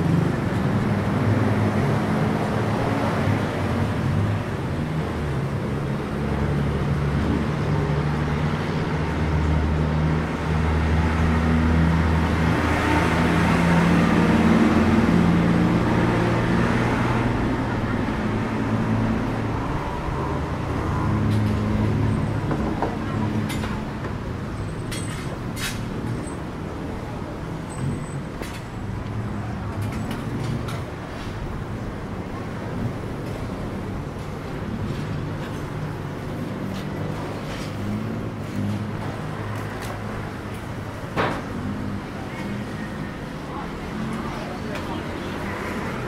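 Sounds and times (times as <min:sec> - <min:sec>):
bus engine low rumble: 0:00.0 - 0:46.0
passing vehicles: 0:00.0 - 0:46.0.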